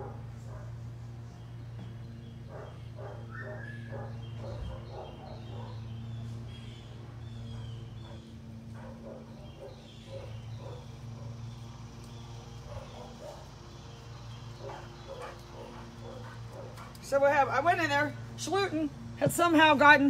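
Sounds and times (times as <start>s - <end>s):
dogs barking and yipping: 0.0s - 1.3s, 2.2s - 18.0s
steady low hum: 0.0s - 20.0s.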